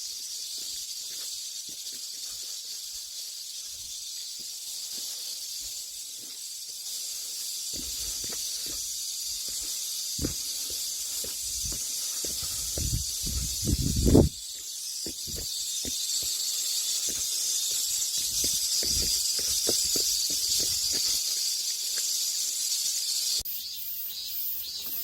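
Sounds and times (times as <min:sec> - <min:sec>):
footsteps through vegetation: 0:00.0 - 0:22.7
cicadas shrilling: 0:00.0 - 0:25.0.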